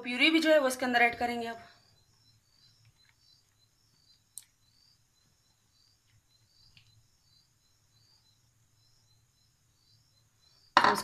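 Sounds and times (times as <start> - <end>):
faint high chirping: 0.0 - 11.0.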